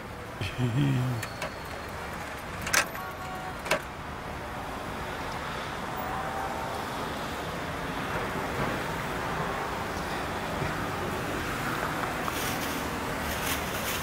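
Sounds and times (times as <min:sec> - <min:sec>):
busy street traffic: 0:00.0 - 0:14.0.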